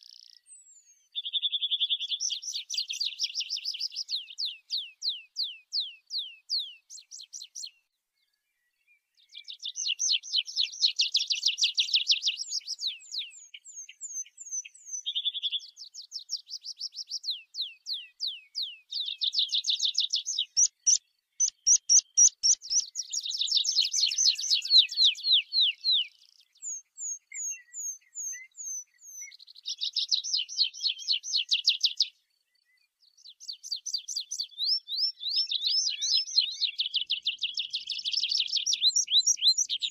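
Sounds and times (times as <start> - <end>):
bird singing trills: 0.0 - 39.9.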